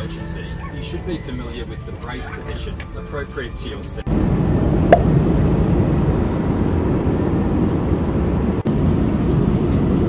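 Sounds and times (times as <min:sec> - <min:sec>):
jet airliner cabin noise: 0:00.0 - 0:10.0.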